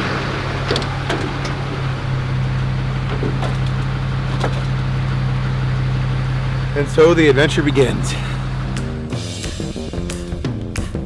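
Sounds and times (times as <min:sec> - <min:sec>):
road noise: 0:00.0 - 0:09.3
vehicle engine hum: 0:00.0 - 0:09.4.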